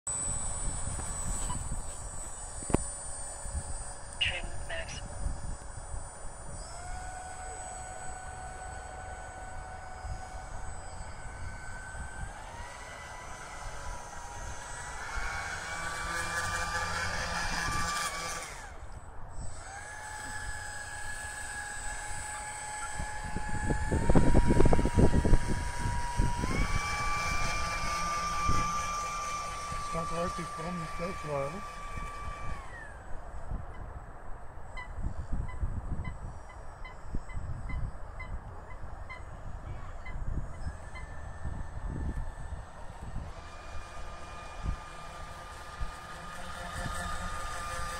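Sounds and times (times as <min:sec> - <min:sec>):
model airboat motor whining: 0:00.1 - 0:47.9
wind rumbling on microphone: 0:00.1 - 0:47.9.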